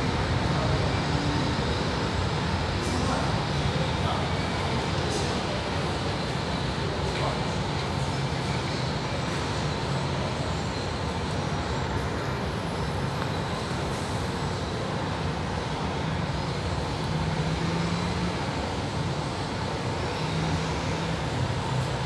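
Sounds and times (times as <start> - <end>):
city traffic rumble: 0.0 - 22.0
distant metro train approaching: 0.0 - 22.0.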